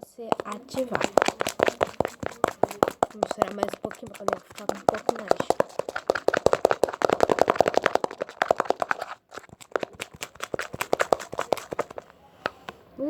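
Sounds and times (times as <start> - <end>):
slime stirred wet clicks: 0.4 - 12.8.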